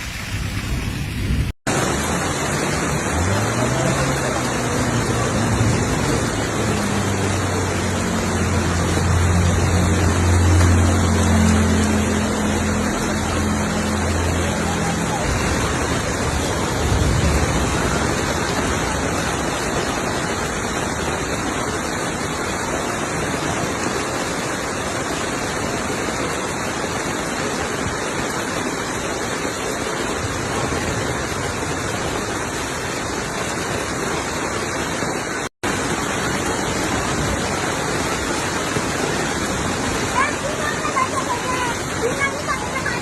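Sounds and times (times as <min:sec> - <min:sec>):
floodwater rushing: 0:00.0 - 0:43.0.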